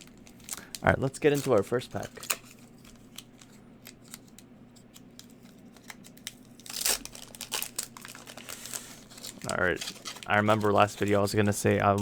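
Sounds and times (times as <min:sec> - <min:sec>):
foil wrapper tearing: 0:00.0 - 0:04.4, 0:05.0 - 0:12.0
foil wrapper crinkling: 0:00.0 - 0:12.0.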